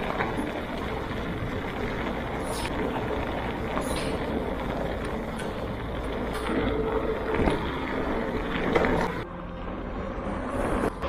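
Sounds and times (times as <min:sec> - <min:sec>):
bike tyres rolling on gravel: 0:00.0 - 0:09.2.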